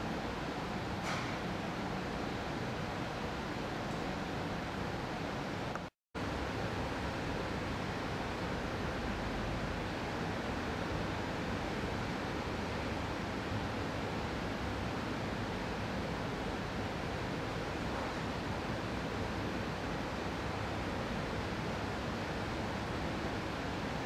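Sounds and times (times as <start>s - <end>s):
indoor room background noise: 0.0s - 24.0s.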